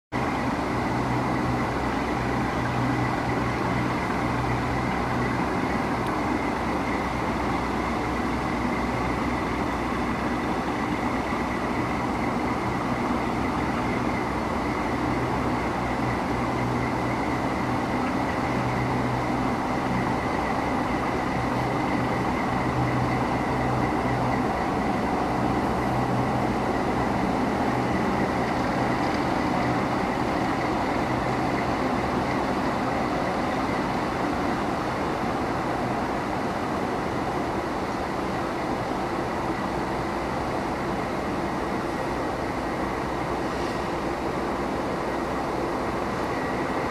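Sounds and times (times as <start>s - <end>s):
diesel locomotive hum: 0.1s - 46.9s
constant rushing noise: 0.2s - 46.9s.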